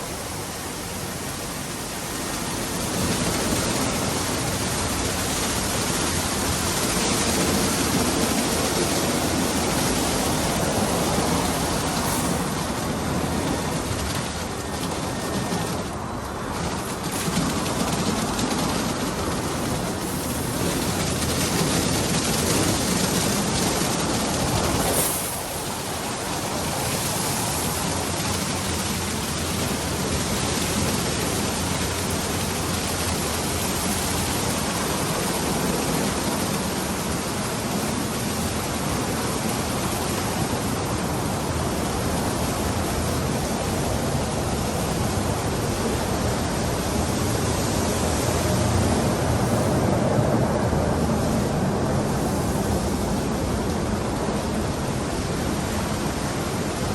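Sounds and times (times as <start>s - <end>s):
car wash machine rushing: 0.0s - 56.9s.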